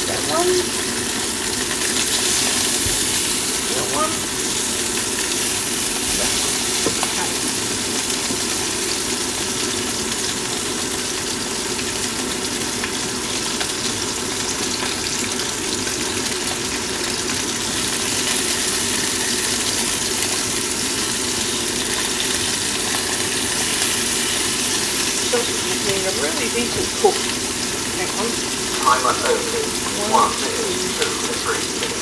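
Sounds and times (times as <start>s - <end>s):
sausages sizzling in a frying pan: 0.0s - 32.0s.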